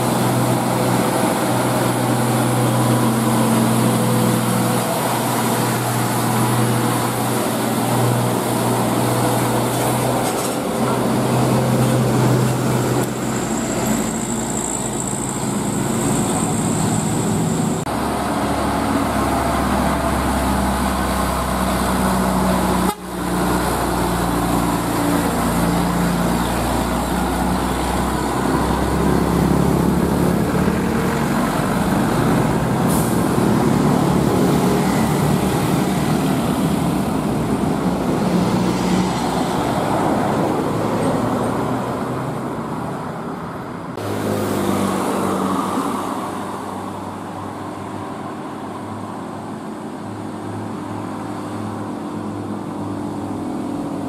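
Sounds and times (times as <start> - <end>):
truck diesel engines under load: 0.0 - 54.0.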